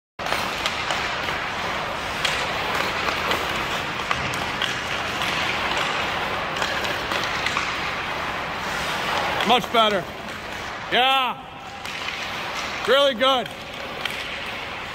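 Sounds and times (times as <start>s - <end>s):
hockey stick clicking puck: 0.2s - 10.9s, 11.6s - 14.9s
skate blades scraping ice: 0.2s - 14.9s.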